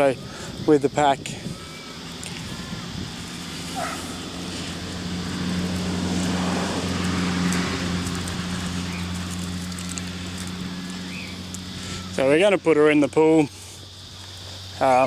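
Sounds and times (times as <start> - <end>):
engine hum: 1.4 - 15.0.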